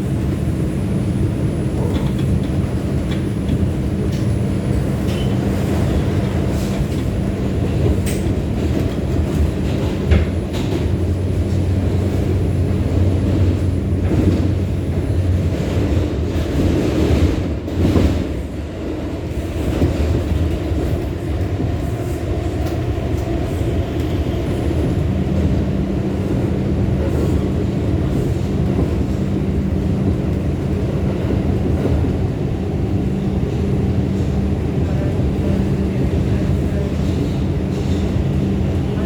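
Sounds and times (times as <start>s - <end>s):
subway train wheels rumbling: 0.0s - 39.0s
train clatter: 0.0s - 39.0s.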